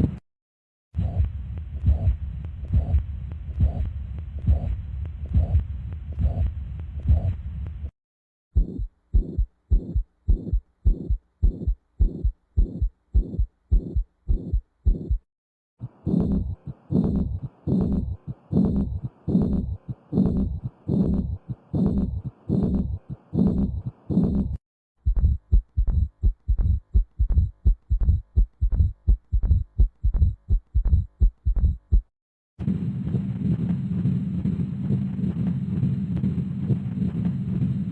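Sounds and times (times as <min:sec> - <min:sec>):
heartbeat lub-dub: 0:01.0 - 0:07.9, 0:08.6 - 0:32.1.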